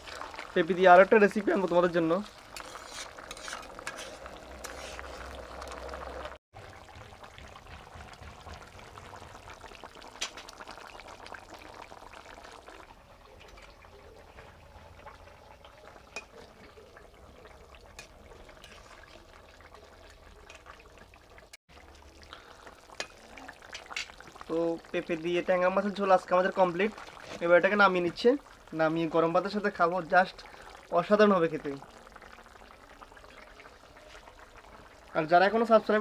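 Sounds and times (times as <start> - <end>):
curry bubbling in a pan: 0.0 - 36.0.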